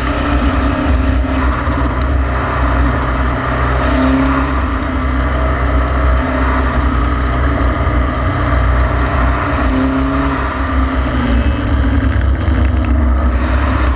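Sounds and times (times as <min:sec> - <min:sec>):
car engine running hard: 0:00.0 - 0:13.9
wind rush: 0:00.0 - 0:13.9.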